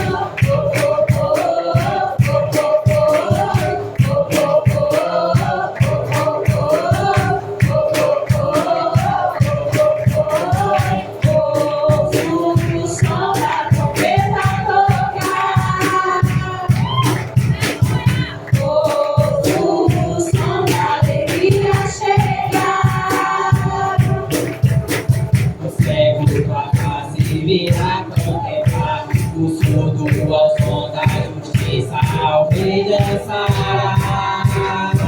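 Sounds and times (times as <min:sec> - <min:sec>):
driving drum beat: 0:00.0 - 0:35.0
voices singing: 0:00.0 - 0:35.0
worship band music: 0:00.0 - 0:35.0.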